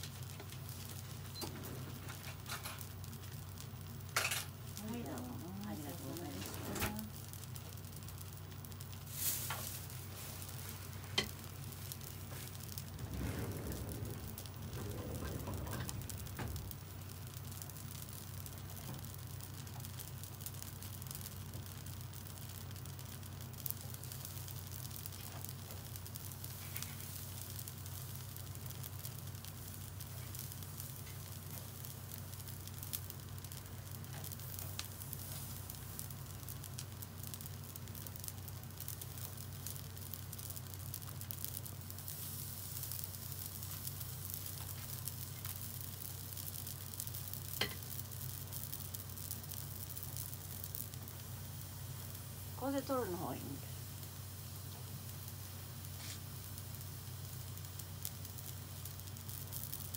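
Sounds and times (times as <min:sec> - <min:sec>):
steady low hum: 0:00.0 - 0:57.4
buns sizzling on a grill: 0:00.0 - 0:59.9.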